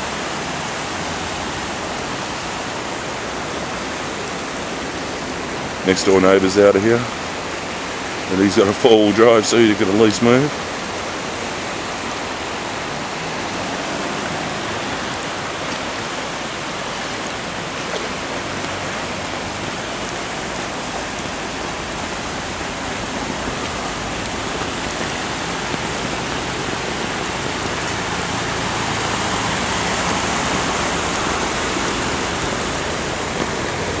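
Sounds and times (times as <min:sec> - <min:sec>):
floodwater rushing: 0:00.0 - 0:34.0
heavy rain pouring: 0:00.0 - 0:34.0.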